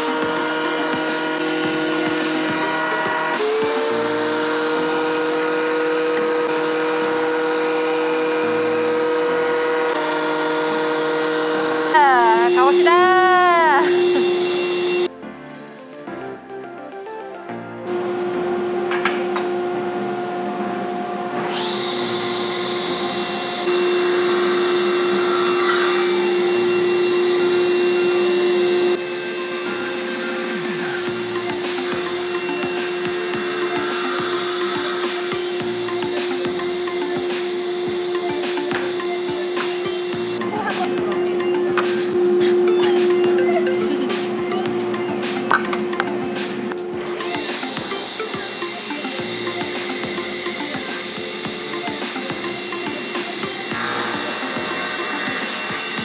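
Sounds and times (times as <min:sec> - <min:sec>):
saw cutting wood hiss: 0:00.0 - 0:15.1, 0:21.4 - 0:43.1, 0:44.1 - 0:56.0
table saw humming: 0:00.0 - 0:15.1, 0:17.8 - 0:56.0
thickness planer whine: 0:00.0 - 0:15.2, 0:17.8 - 0:56.0.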